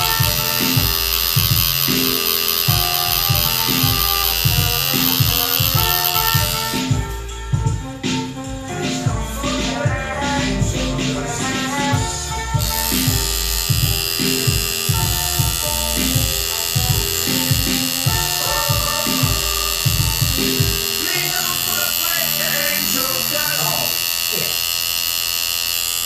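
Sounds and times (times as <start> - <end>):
tattoo machine buzzing: 0.0 - 7.2, 11.9 - 26.0
background music with bass beat: 0.0 - 24.0.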